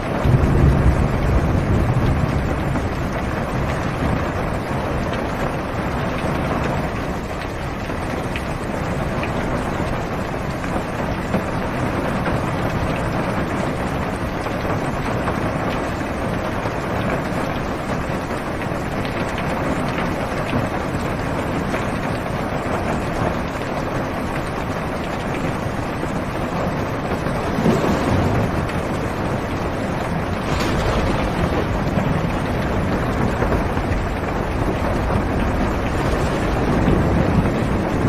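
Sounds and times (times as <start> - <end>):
low rumble of thunder: 0.0 - 10.4, 11.0 - 38.0
heavy rain drumming on car roof: 0.0 - 38.0.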